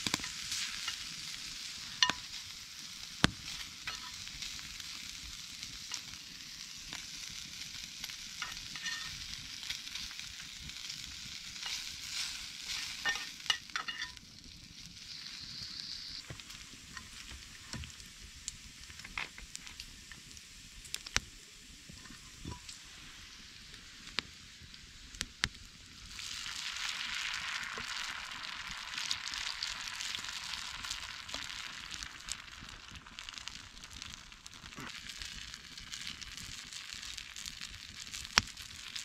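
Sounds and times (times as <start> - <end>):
campfire crackles: 0.0 - 39.0
food sizzling in frying pan: 0.0 - 39.0.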